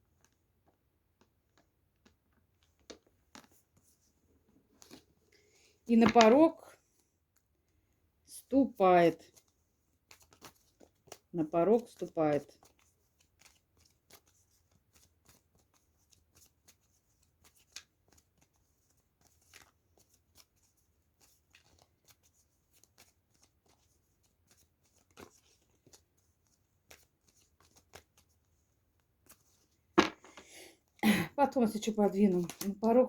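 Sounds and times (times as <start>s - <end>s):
cards being shuffled by hand: 0.1s - 7.5s, 9.2s - 30.6s, 32.0s - 33.0s.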